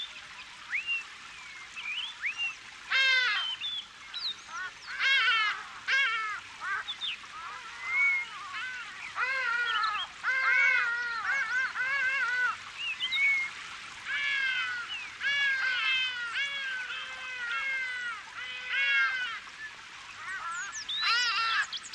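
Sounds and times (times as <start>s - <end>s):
faint steady hiss: 0.0s - 21.9s
flock of birds calling: 2.1s - 21.9s.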